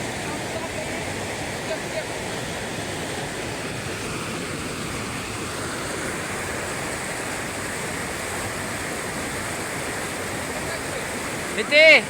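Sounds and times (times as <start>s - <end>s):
rushing river water: 0.0s - 12.0s.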